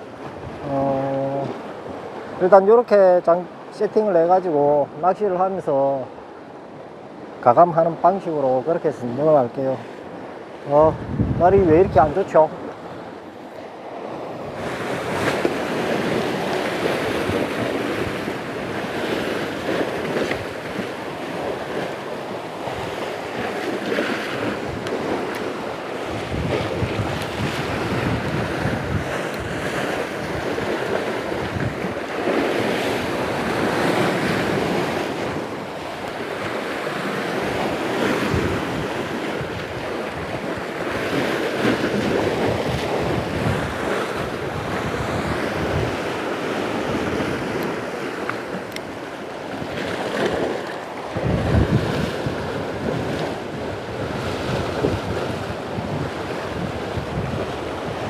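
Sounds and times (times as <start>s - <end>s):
sea waves breaking on rocks: 0.0s - 58.0s
wind buffeting microphone: 10.2s - 13.2s, 14.0s - 58.0s.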